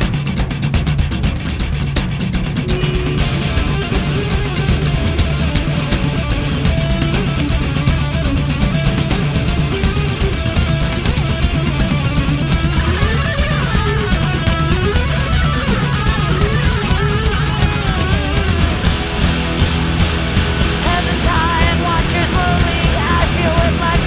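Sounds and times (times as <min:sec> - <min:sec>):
guitar rock music: 0:00.0 - 0:24.0.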